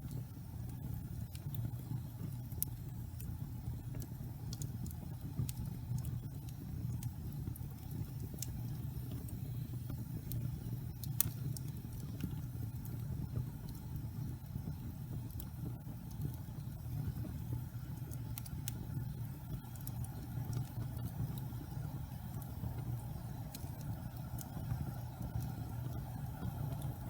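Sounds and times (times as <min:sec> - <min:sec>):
fire flames rumbling: 0:00.0 - 0:27.0
logs crackling and popping: 0:00.0 - 0:27.0.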